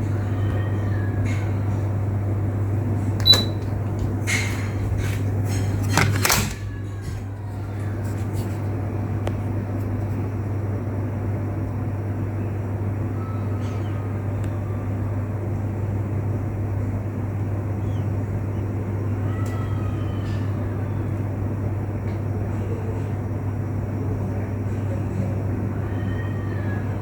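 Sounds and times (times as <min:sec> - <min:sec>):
ceiling fan motor hum: 0:00.0 - 0:27.0.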